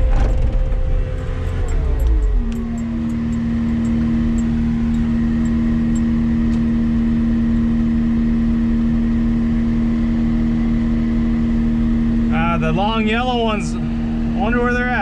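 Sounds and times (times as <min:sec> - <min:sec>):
track loader diesel engine drone: 0:00.0 - 0:15.0.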